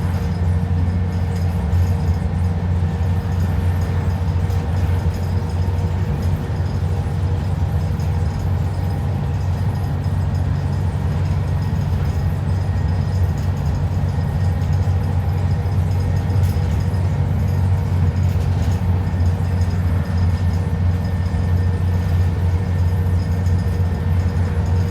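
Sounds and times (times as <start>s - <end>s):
bus engine drone: 0.0s - 24.9s
road noise: 0.0s - 24.9s.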